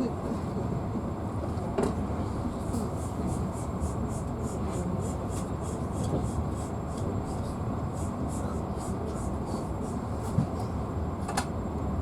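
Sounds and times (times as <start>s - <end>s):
train wheels rumbling on rails: 0.2s - 11.6s.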